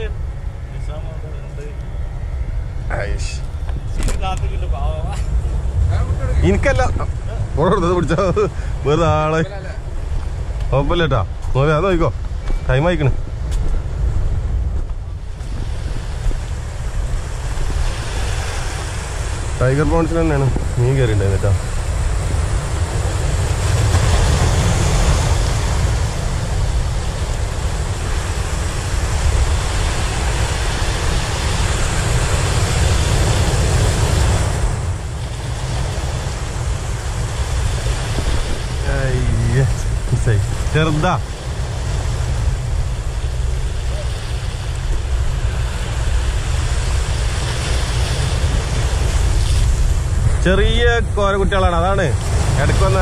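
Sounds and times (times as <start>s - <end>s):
wind rumble on microphone: 0.0s - 53.0s
surf washing over boulders: 2.8s - 53.0s.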